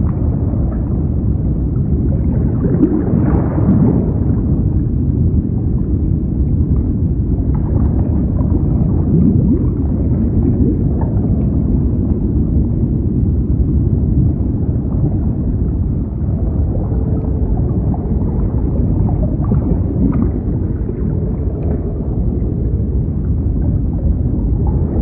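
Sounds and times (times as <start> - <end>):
deep underwater rumble: 0.0 - 25.0
faint gurgles: 0.0 - 25.0.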